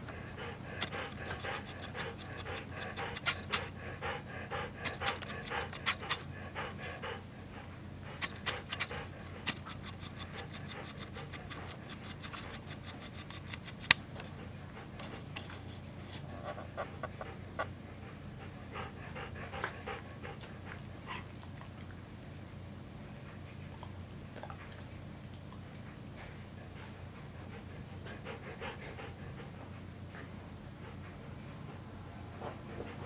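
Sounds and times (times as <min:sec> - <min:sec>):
dog panting: 0:00.0 - 0:21.9, 0:25.5 - 0:33.0.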